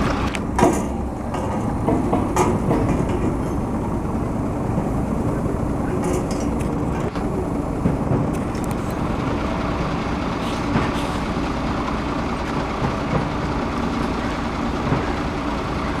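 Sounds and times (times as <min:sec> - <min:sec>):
locomotive rumbling: 0:00.0 - 0:16.0.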